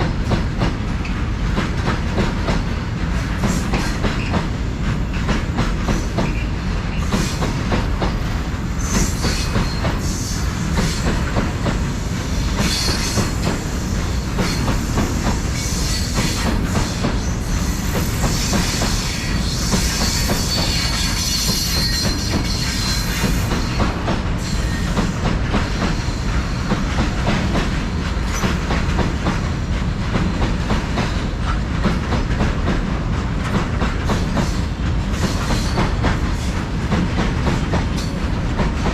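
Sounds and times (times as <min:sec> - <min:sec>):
train wheels clicking over rail joints: 0:00.0 - 0:38.9.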